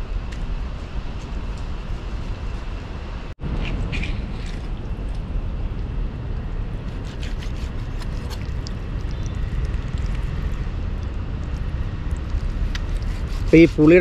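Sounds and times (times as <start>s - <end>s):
low rumble: 0.0s - 13.5s.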